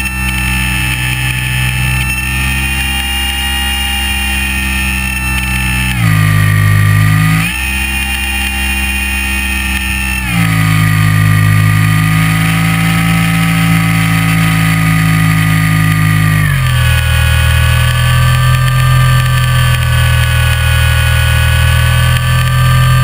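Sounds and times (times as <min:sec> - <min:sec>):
model plane motor drone: 0:00.0 - 0:23.0.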